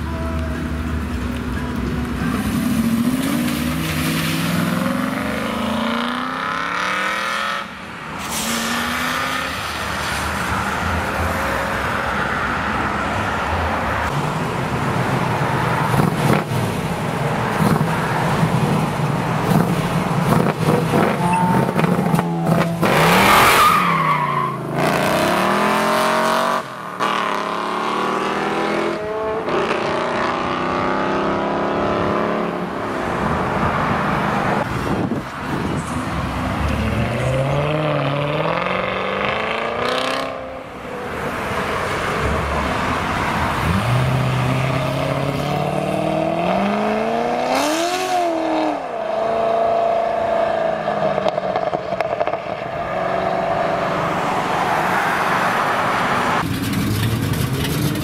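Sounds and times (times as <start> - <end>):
cars accelerating: 0.0 - 58.0.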